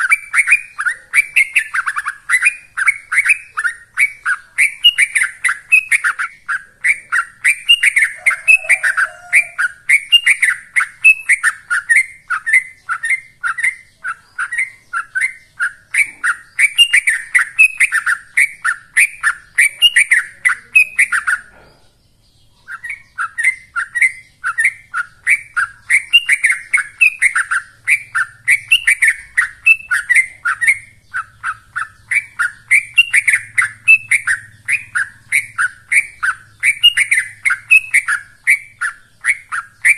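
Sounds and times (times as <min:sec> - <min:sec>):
bird singing fast chirped notes: 0:00.0 - 0:39.9.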